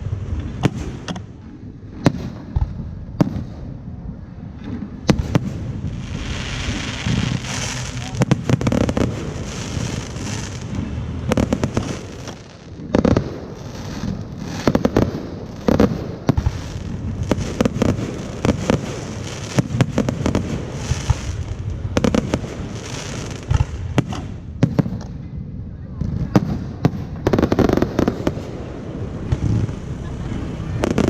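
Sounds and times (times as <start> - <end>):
fireworks banging: 0.0 - 25.2, 26.0 - 31.0
constant rumbling din: 0.0 - 31.0.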